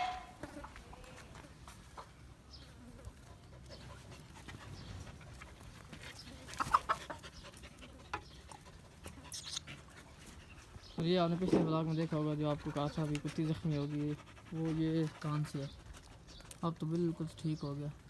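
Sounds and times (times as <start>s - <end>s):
faint steady background noise: 0.0s - 18.0s.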